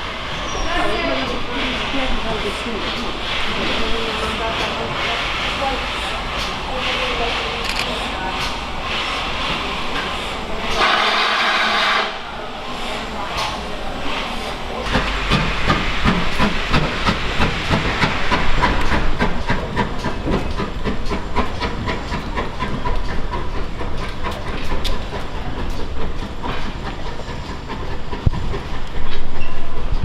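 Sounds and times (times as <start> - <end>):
steam hissing: 0.0 - 29.9
steam train running: 0.0 - 30.0.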